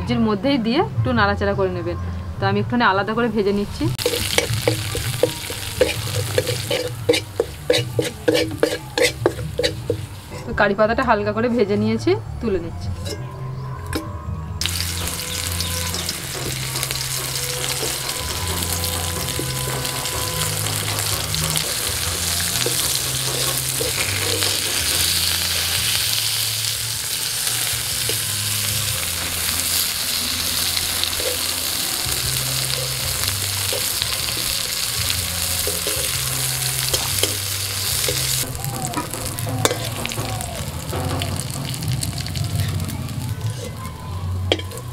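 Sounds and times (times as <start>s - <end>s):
onion rings sizzling in oil: 3.8s - 10.6s, 14.6s - 44.9s
metal spatula scraping: 4.0s - 10.6s, 12.9s - 26.8s, 27.4s - 42.4s, 43.4s - 44.9s.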